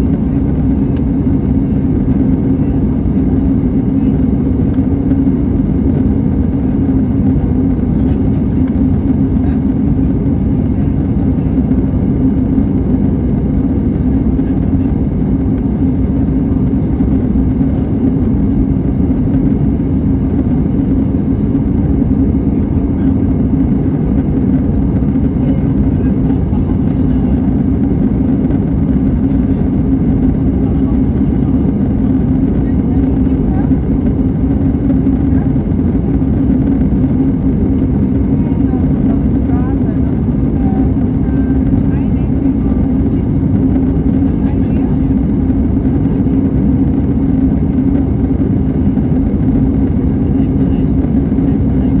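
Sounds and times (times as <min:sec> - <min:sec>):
jet engine drone: 0:00.0 - 0:52.0
steady low hum: 0:00.0 - 0:52.0.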